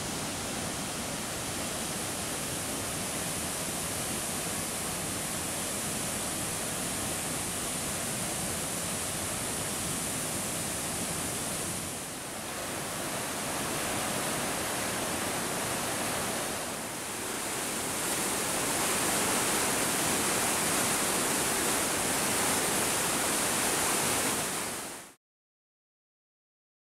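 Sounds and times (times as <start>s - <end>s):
rushing water: 0.0s - 25.2s.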